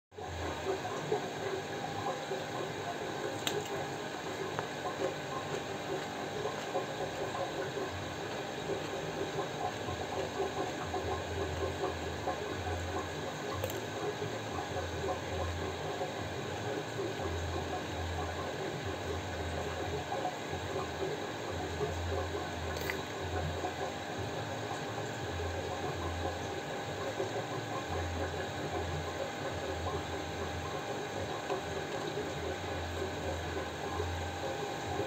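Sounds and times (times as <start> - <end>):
mechanical hum and hiss: 0.2 - 35.0.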